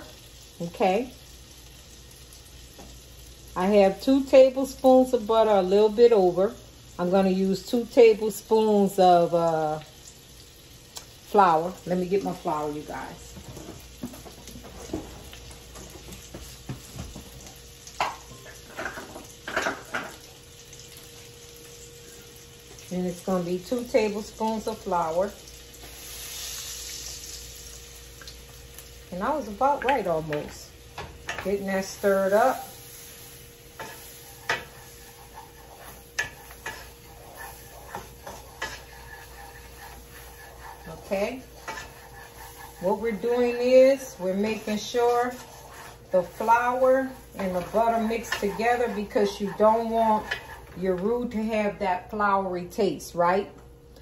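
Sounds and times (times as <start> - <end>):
butter sizzling in pan: 0.0 - 51.8.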